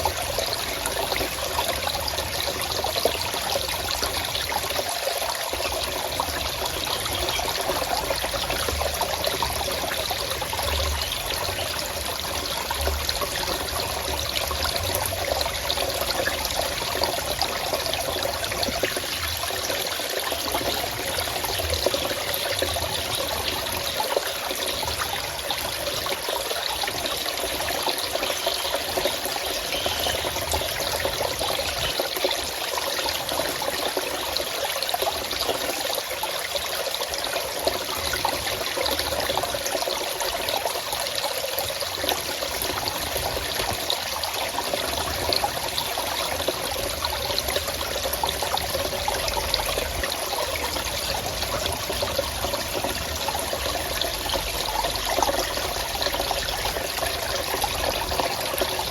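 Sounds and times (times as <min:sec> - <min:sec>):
stream trickling and splashing: 0:00.0 - 0:58.9.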